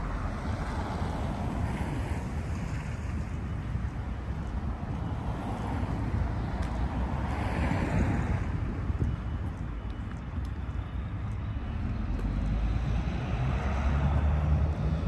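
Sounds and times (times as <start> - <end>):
passing vehicles rumbling: 0.0 - 15.0.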